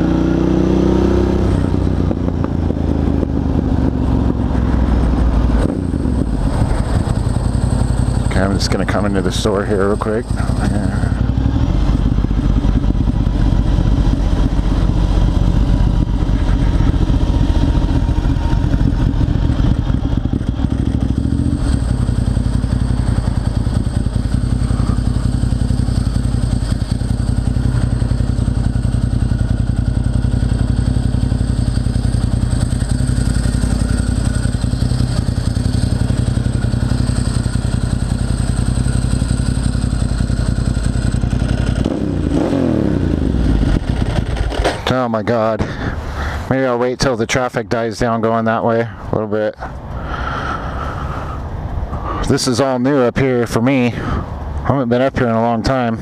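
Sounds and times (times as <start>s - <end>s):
motorcycle engine idling: 1.3s - 47.2s.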